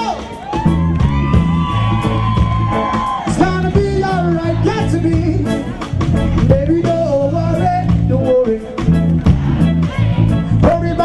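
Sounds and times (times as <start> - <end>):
live reggae band playing: 0.0 - 11.0
melodic lead line: 0.0 - 11.0
steady bass line: 0.0 - 11.0.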